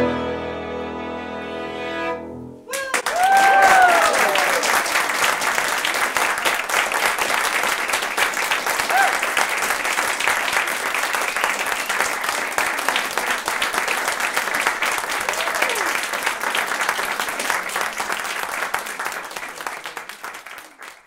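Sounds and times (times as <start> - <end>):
audience applauding: 2.7 - 21.0.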